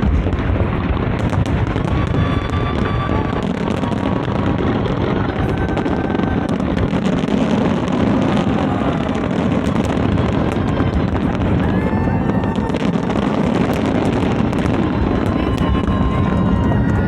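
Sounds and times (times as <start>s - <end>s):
fireworks bursts rumbling: 0.0s - 17.0s
fireworks crackling: 0.0s - 17.0s.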